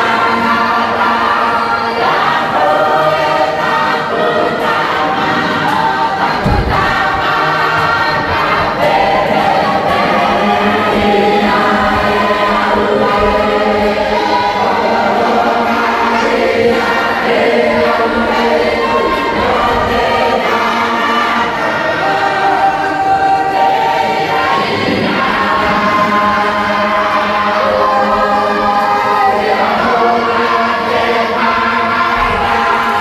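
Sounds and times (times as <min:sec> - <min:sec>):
mixed choir singing a hymn: 0:00.0 - 0:33.0.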